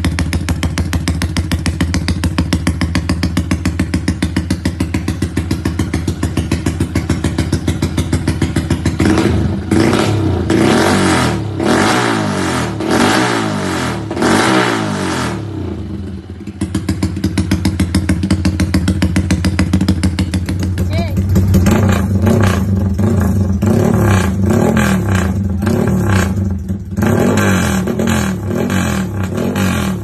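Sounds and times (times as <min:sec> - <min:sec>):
motorcycle idling and revving: 0:00.0 - 0:30.0.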